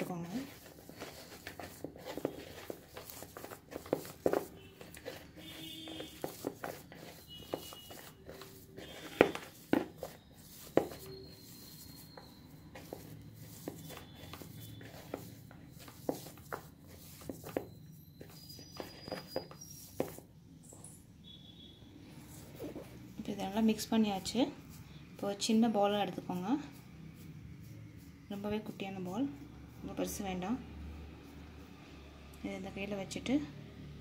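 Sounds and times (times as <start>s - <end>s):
hands kneading dough: 0.0s - 20.3s, 22.3s - 31.7s.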